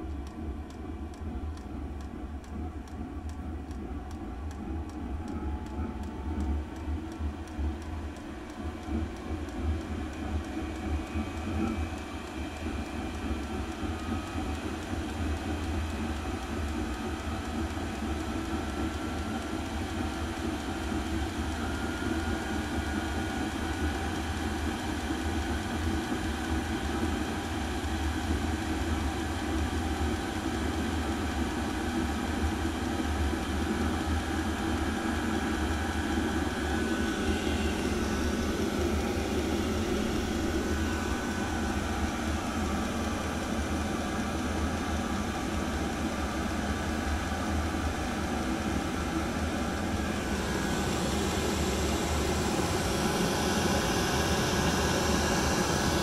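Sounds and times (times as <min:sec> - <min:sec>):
diesel air heater droning: 0:04.0 - 0:56.0.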